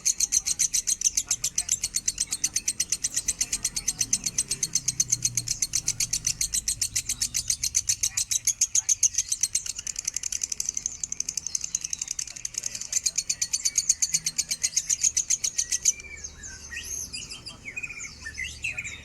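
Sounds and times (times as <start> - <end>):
lovebird chirping rapidly: 0.0 - 19.0.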